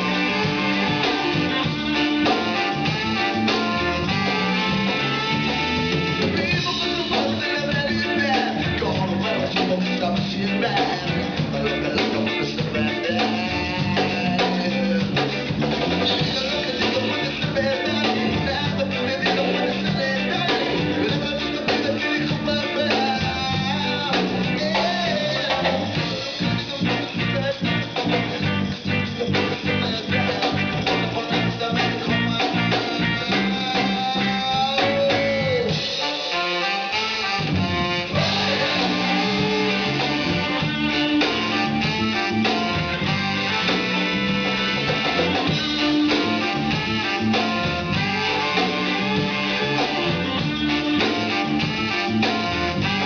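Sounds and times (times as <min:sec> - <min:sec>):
bass guitar: 0:00.0 - 0:53.0
drum kit beat: 0:00.0 - 0:53.0
electric guitar lines: 0:00.0 - 0:53.0
horn-like lead: 0:00.0 - 0:53.0
live band playing: 0:00.0 - 0:53.0.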